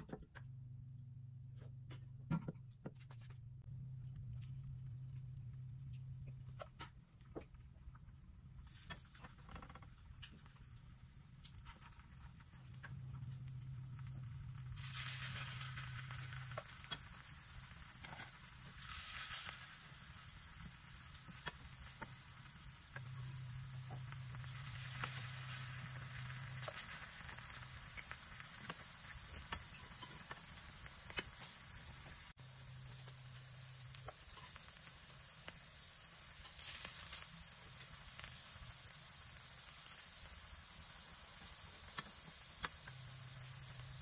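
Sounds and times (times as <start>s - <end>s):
patties sizzling in hot oil: 3.6s - 44.0s.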